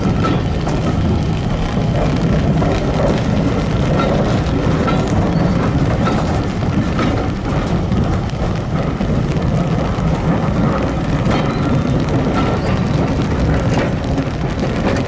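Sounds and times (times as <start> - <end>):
diesel railway engine running: 0.0 - 15.0.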